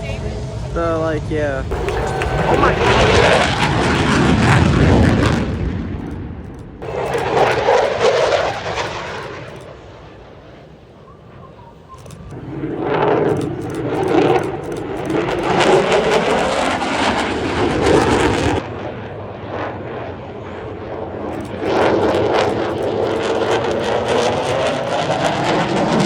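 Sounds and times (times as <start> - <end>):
jet aircraft low pass: 0.0 - 26.0.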